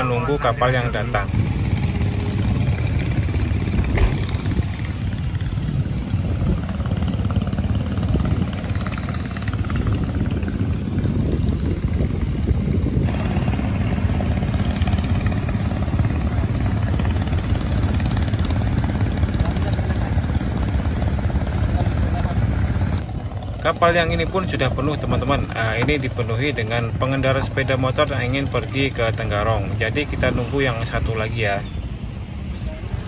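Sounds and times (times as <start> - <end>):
motorcycles idling: 0.0 - 33.0.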